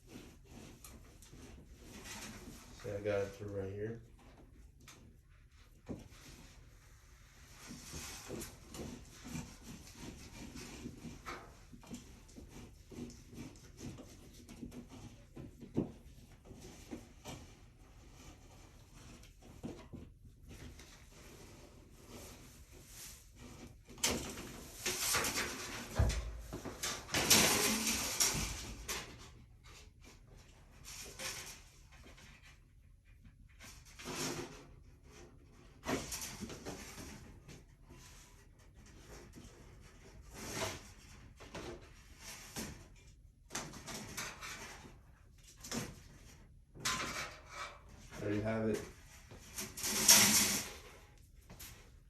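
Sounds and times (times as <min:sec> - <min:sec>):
cable scraping through drywall: 0:00.0 - 0:52.0.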